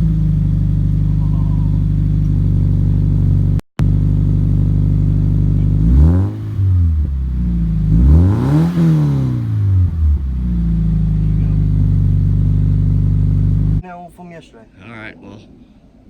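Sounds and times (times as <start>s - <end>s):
car engine idling and revving: 0.0s - 13.8s.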